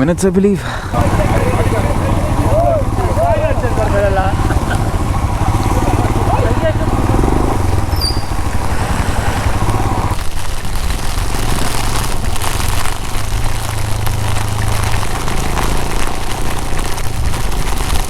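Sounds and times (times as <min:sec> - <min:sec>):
dense steady hiss: 0:00.0 - 0:18.0
motorcycle engine rumbling: 0:00.0 - 0:18.0.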